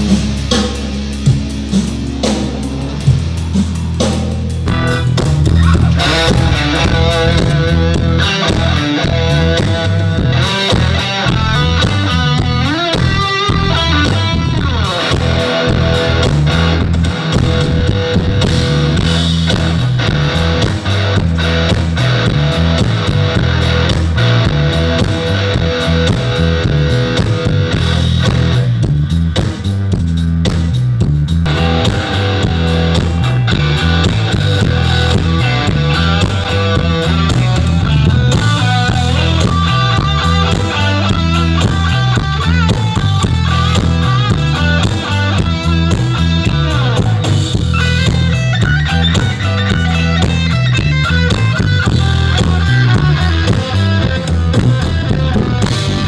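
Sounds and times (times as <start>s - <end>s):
electric guitar bending notes: 0.0s - 56.0s
live rock band playing: 0.0s - 56.0s.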